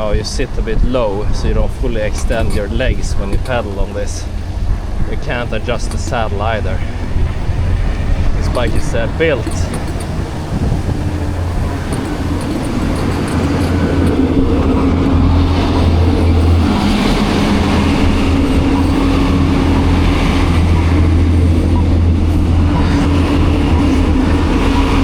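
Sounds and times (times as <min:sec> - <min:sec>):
vehicle rumble with droning hum: 0:00.0 - 0:25.0.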